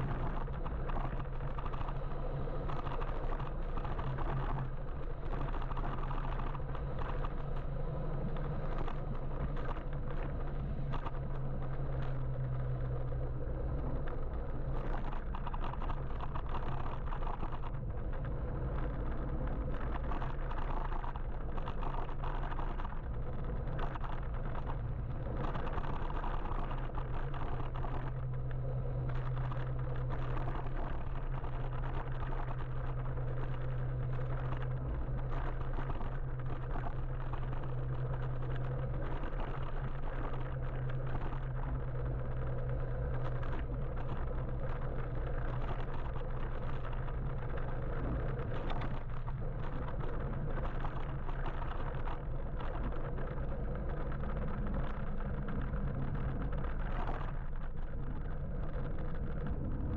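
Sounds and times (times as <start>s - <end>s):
constant low hum: 0.0s - 59.9s
road and wind noise: 0.0s - 59.9s.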